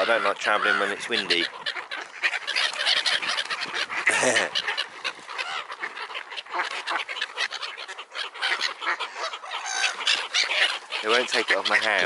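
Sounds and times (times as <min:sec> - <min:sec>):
gulls and ducks calling: 0:00.0 - 0:12.0
loud low bird call: 0:00.0 - 0:12.0.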